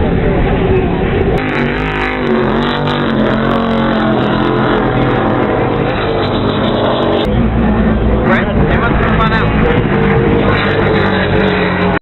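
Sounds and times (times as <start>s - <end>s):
powerboat engines droning: 0.0s - 12.0s.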